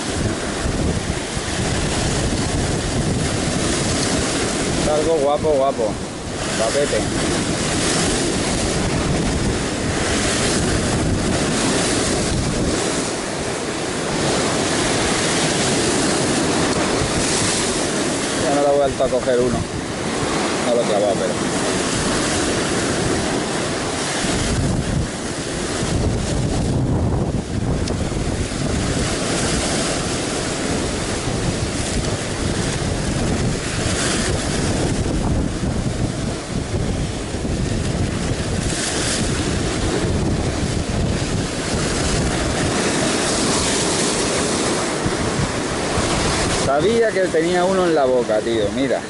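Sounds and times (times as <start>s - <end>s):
heavy surf breaking on rocks: 0.0s - 49.0s
wind buffeting microphone: 0.0s - 49.0s.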